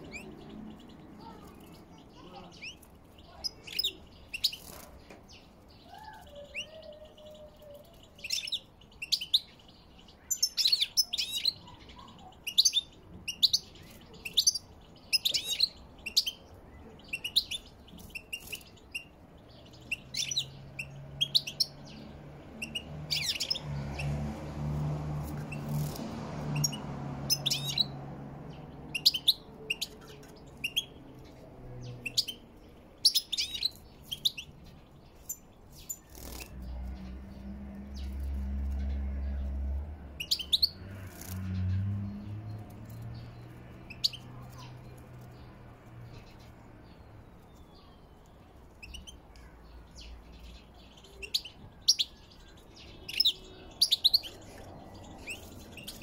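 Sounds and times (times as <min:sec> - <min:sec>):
goldfinches chirping: 0:00.0 - 0:24.3, 0:25.2 - 0:45.5, 0:46.1 - 0:56.0.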